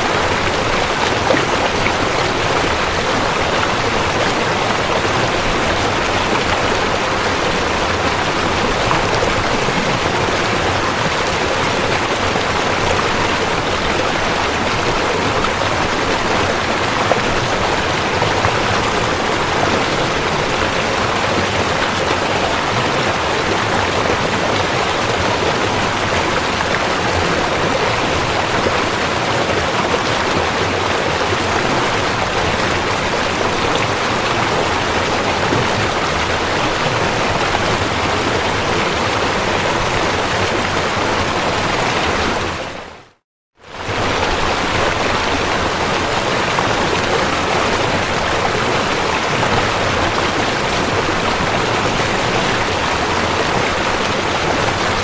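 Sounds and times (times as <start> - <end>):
river water rushing: 0.0 - 43.0, 43.6 - 55.0.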